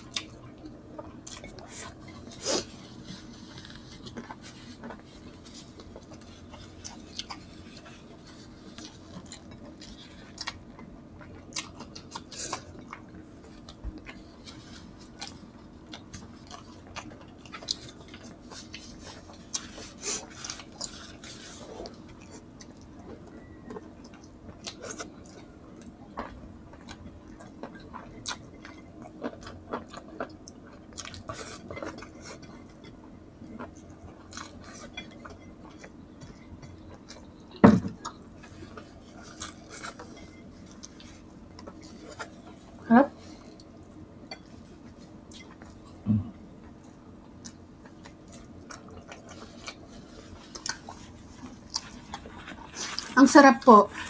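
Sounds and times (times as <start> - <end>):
chewing and lip smacks: 0.0 - 42.7, 46.6 - 53.2.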